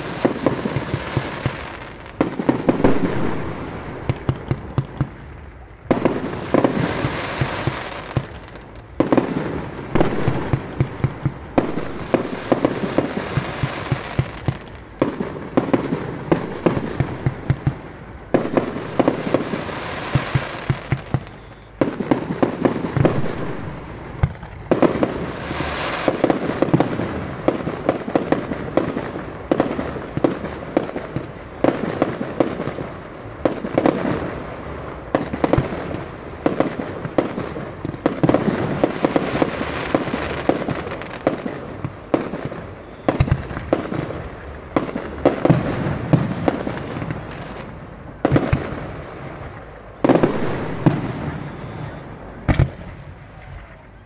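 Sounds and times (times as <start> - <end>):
fireworks bangs: 0.0 - 53.9
fireworks crackling: 0.0 - 54.0.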